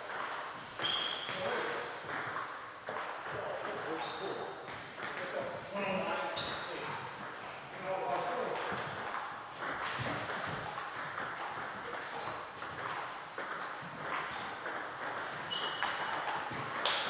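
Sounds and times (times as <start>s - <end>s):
table tennis balls clicking: 0.0s - 5.4s, 7.2s - 17.0s.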